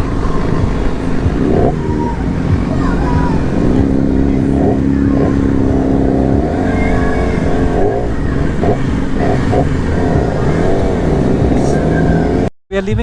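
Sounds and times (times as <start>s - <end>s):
motorcycle engines revving: 0.0s - 12.5s.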